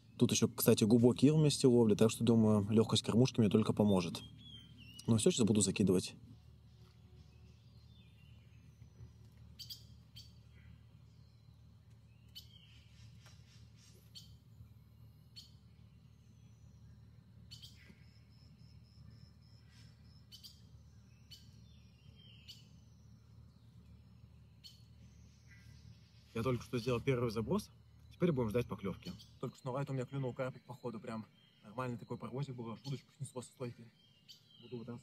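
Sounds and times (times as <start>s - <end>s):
bird chirps and calls: 0.0s - 14.6s, 15.3s - 35.0s
low outdoor rumble: 0.0s - 35.0s.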